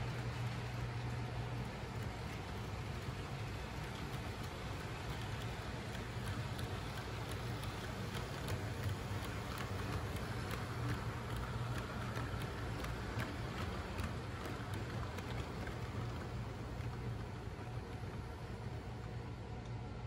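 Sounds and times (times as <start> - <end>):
model train humming: 0.0 - 19.6
wheels clicking on rails: 0.0 - 20.0.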